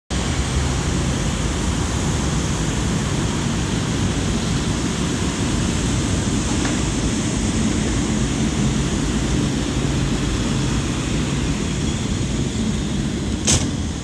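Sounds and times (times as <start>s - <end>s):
electric locomotive running: 0.1s - 14.0s.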